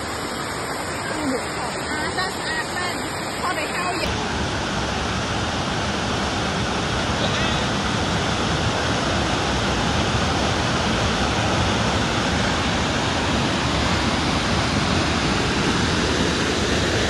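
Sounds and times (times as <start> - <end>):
waterfall rushing over boulders: 0.0 - 17.0.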